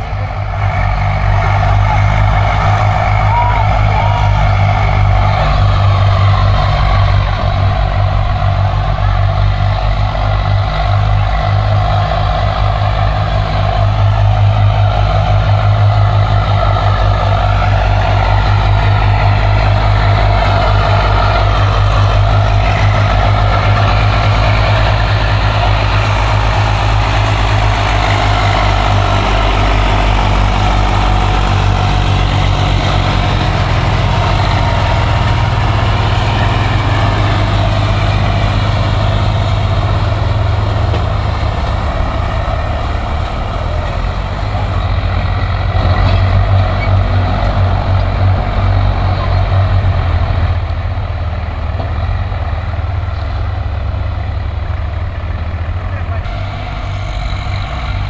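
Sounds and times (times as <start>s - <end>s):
people's voices: 0.0s - 58.0s
tractor engines droning: 0.0s - 58.0s.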